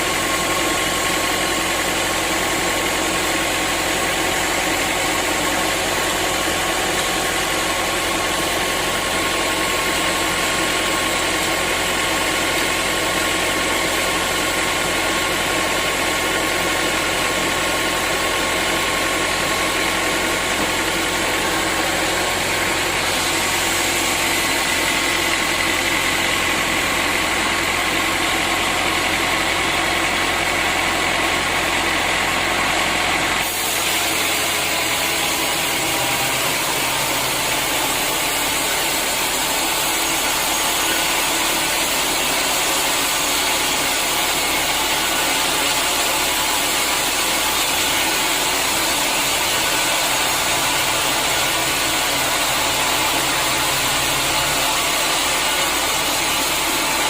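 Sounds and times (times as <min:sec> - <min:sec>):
sawmill machinery whining: 0:00.0 - 0:57.0.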